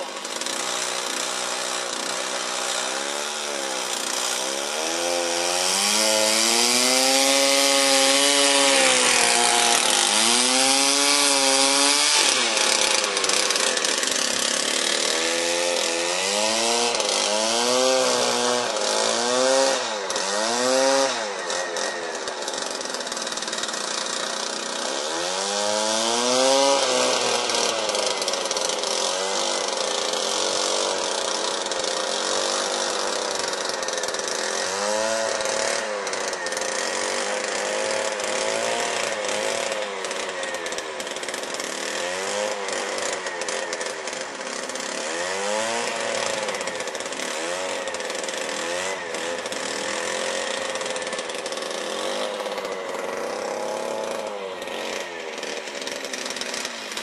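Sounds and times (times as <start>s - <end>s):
small engine revving: 0.0s - 57.0s.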